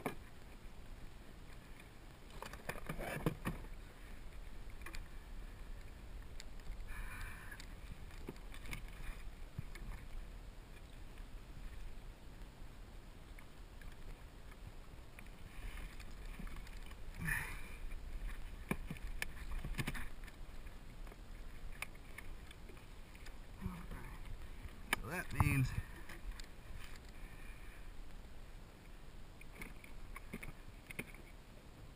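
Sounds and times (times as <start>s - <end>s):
water sloshing against kayak: 0.0s - 31.9s
water splashes: 0.0s - 31.9s.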